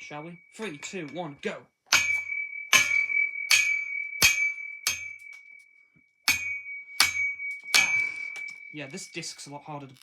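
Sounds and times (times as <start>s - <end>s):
high ringing tone: 0.0s - 9.7s.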